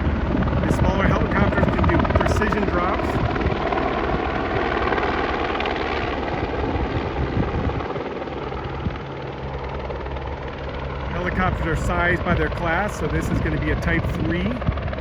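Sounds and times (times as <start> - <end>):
helicopter rotor beating: 0.0 - 15.0.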